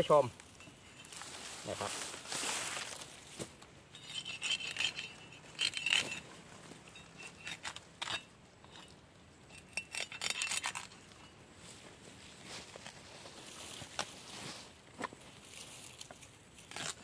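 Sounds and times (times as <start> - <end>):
palm fronds crackling and rustling: 0.0 - 7.9, 10.2 - 17.0.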